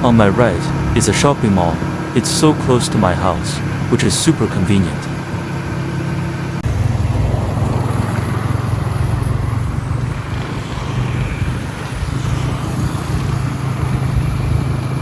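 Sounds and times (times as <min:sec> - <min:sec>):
motorbike engine running: 0:00.0 - 0:15.0
wind and road noise: 0:00.0 - 0:15.0.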